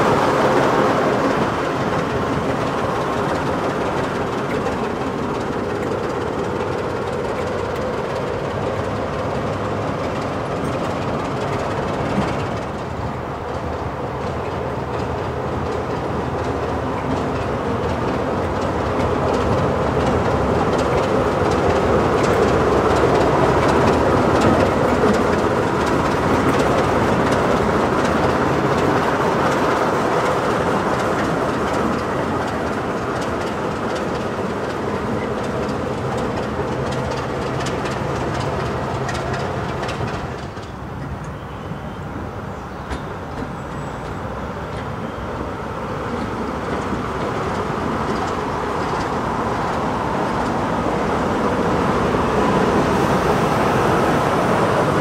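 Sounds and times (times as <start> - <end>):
wheels knocking over rail joints: 0.0 - 41.4, 46.0 - 55.0
locomotive diesel engine running: 0.0 - 55.0.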